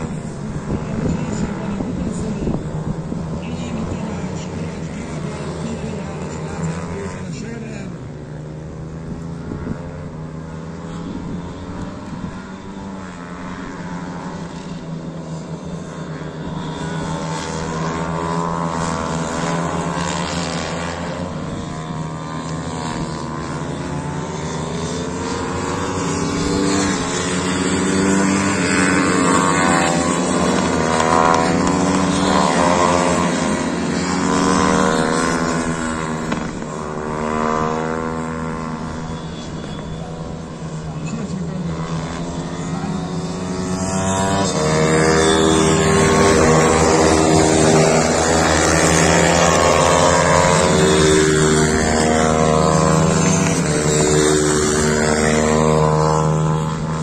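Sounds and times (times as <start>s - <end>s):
small motorcycle engines revving: 0.0s - 57.0s.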